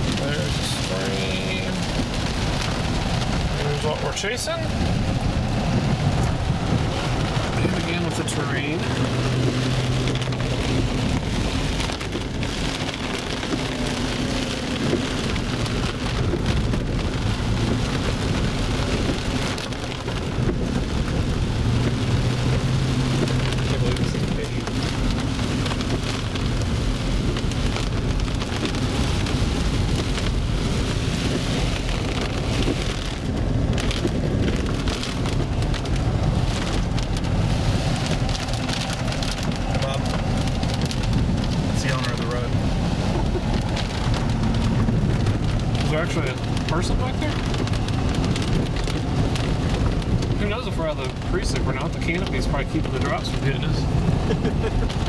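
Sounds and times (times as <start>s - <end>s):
engine and tyre hum: 0.0s - 55.0s
rain pattering on vehicle: 0.0s - 55.0s.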